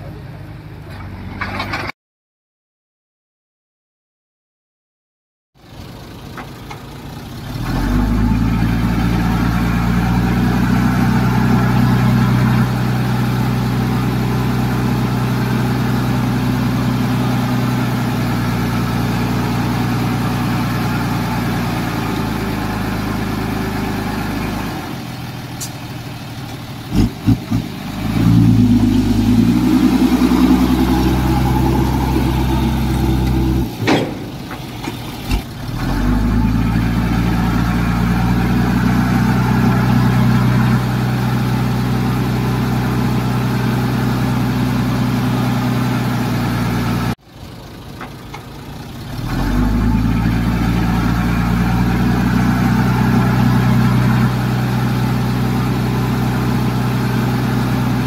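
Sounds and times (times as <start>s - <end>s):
heavy machinery diesel engine: 5.6s - 58.0s.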